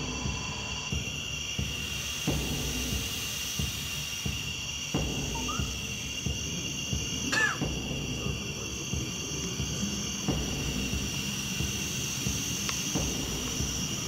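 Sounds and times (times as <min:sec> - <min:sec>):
night insect chorus: 0:00.0 - 0:14.0.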